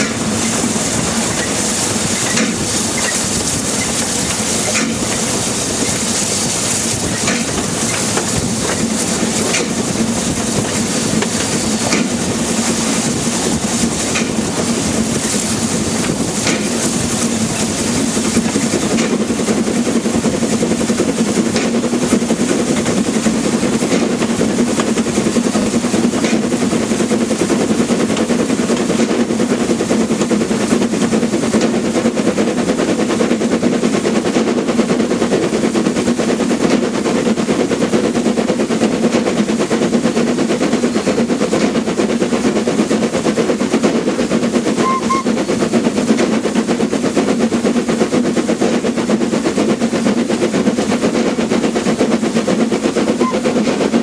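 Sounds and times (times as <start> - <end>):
steam locomotive exhaust beats: 0.0 - 54.0
train clattering: 0.0 - 54.0.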